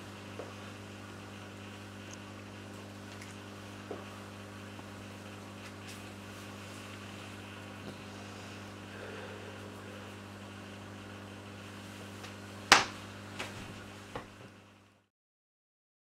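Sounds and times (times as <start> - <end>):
low electrical hum: 0.0 - 15.1.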